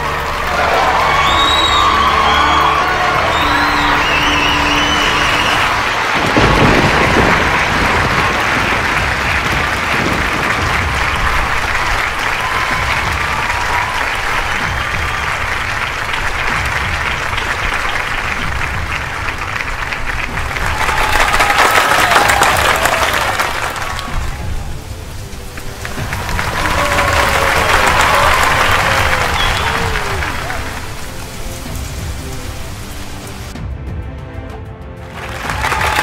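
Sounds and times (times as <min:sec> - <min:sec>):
audience applauding: 0:00.0 - 0:33.6, 0:35.1 - 0:36.0.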